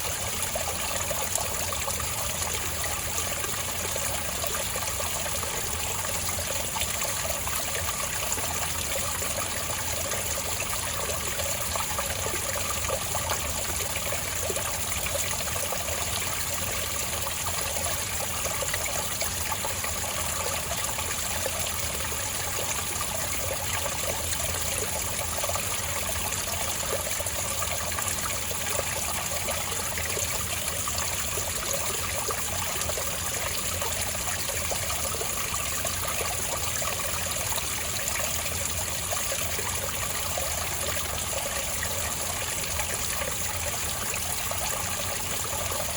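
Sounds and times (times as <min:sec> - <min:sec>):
water trickling over rocks: 0:00.0 - 0:45.9.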